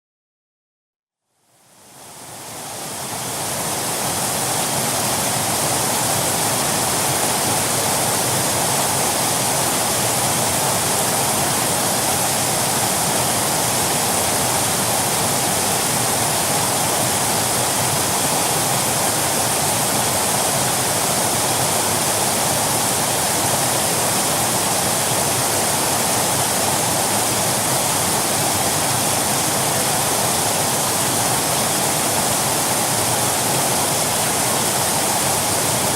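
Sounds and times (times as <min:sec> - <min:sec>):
waterfall rushing: 0:02.0 - 0:35.9.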